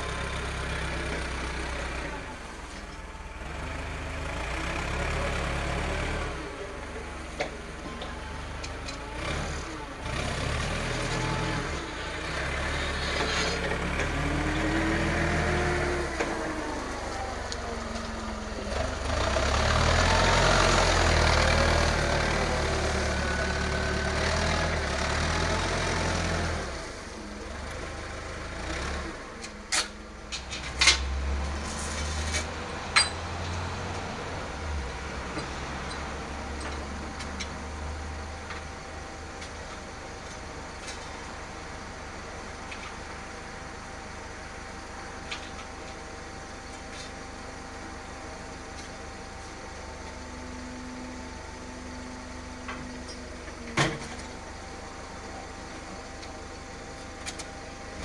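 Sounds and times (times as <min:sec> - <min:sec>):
forklift engine running: 0:00.0 - 0:58.0.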